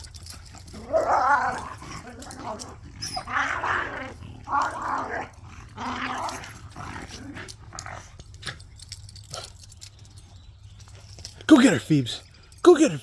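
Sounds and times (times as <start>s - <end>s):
dogs growling and scuffling: 0.0s - 11.5s.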